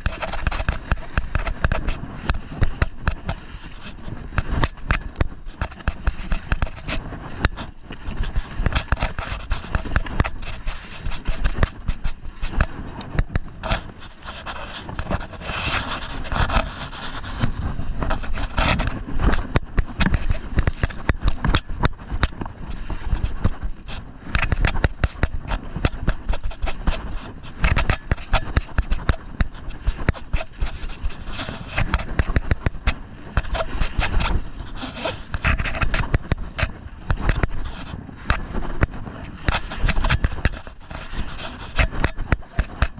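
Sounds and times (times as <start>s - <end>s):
sharp clicks and crackles: 0.0s - 42.9s
skis scraping over snow: 0.0s - 42.9s
wind rumble on microphone: 0.0s - 42.9s.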